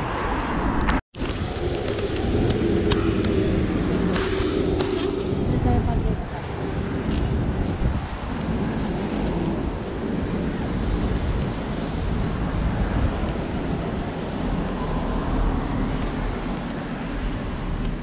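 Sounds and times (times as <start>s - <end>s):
rumble of passing traffic: 0.0s - 18.0s.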